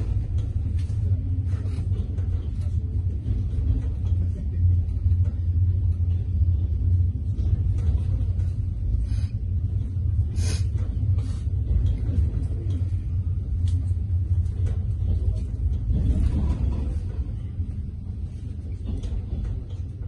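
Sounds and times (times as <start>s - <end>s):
train rumbling in motion: 0.0s - 20.0s.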